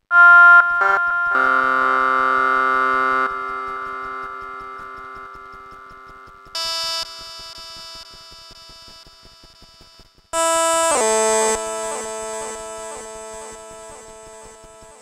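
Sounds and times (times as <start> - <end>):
buzzy synthesizer notes with echo: 0.1 - 8.0, 10.4 - 15.0.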